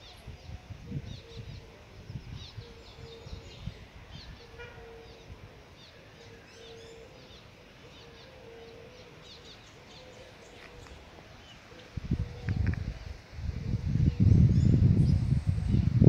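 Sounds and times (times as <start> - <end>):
low background hiss: 0.0 - 16.0
small birds chirping and twittering: 0.0 - 16.0.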